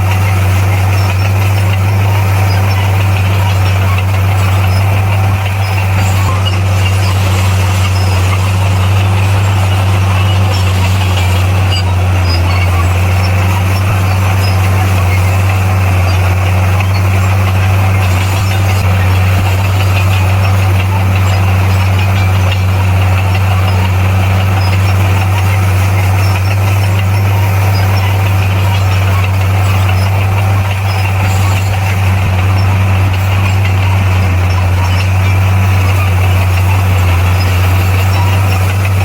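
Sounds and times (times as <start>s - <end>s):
diesel engine humming: 0.0s - 39.0s.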